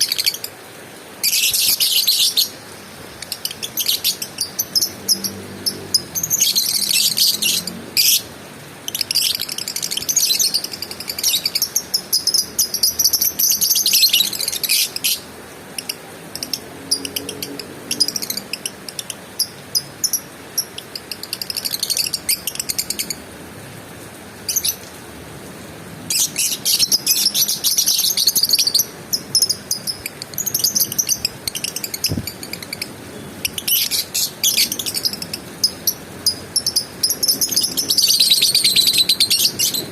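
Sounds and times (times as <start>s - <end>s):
lovebird high-pitched chattering: 1.2s - 2.6s, 3.2s - 23.2s, 26.1s - 39.9s.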